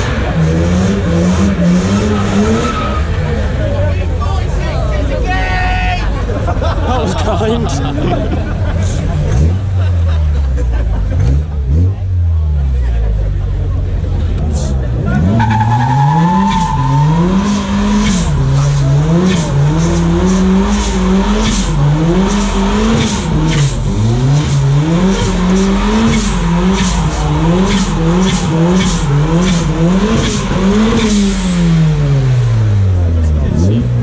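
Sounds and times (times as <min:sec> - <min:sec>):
car engine revving: 0:00.0 - 0:05.2, 0:06.2 - 0:34.0.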